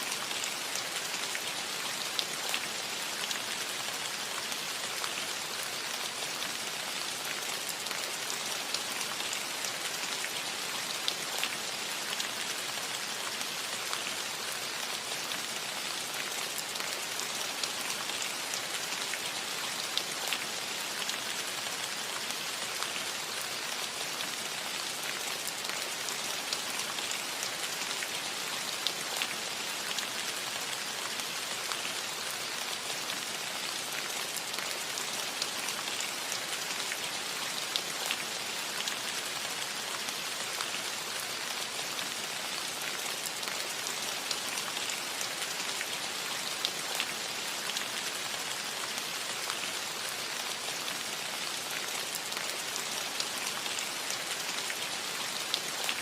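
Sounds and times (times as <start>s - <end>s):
rain hissing on a roof: 0.0s - 56.0s.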